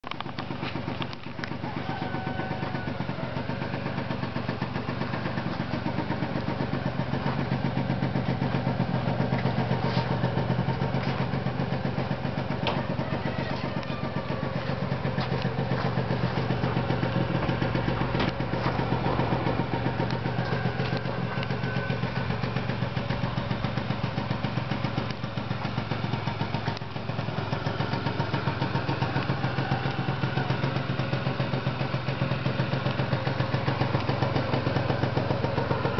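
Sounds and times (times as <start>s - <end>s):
scooter engine idling: 0.0s - 35.9s.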